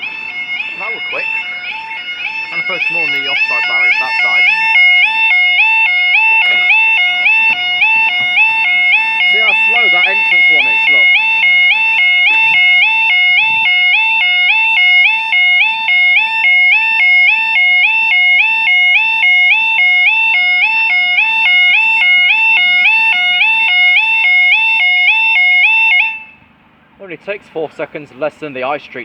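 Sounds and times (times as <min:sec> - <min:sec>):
level crossing two-tone alarm: 0:00.0 - 0:26.4.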